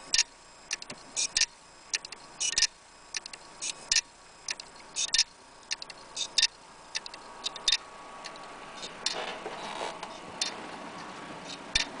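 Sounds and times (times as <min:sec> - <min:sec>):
hard drive clicking: 0:00.0 - 0:12.0.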